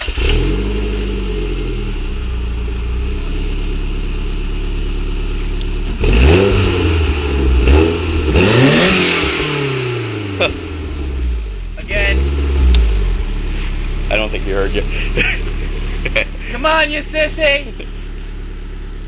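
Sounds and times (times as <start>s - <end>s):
car engine idling: 0.0s - 19.0s
engine revving: 0.0s - 19.0s.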